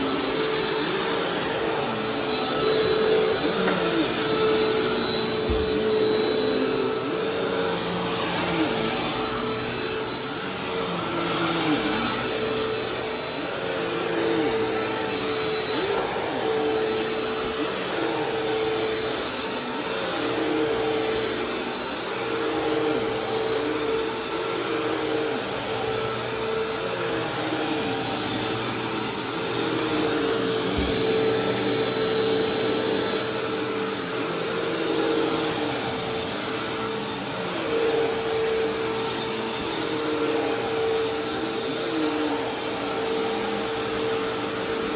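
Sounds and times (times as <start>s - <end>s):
vacuum cleaner running on carpet: 0.0s - 44.9s.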